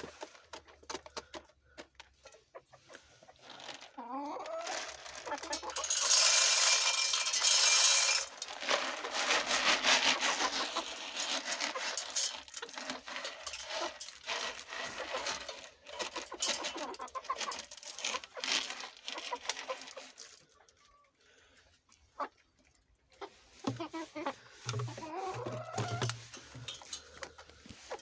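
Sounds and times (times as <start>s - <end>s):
chickens clucking: 0.0s - 14.0s, 14.6s - 21.2s, 22.1s - 28.0s.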